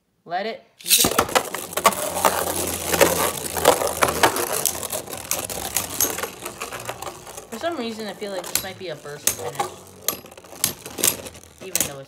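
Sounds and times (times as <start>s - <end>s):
spinning tops clattering: 0.8s - 12.0s
spinning tops whirring: 0.8s - 12.0s.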